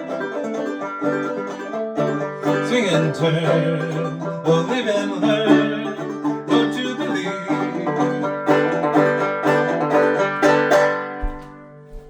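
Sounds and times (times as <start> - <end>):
banjo picking: 0.0 - 12.0.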